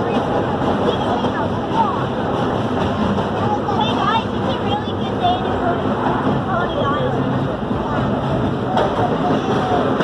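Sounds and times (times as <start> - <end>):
subway train running on rails: 0.0 - 10.0.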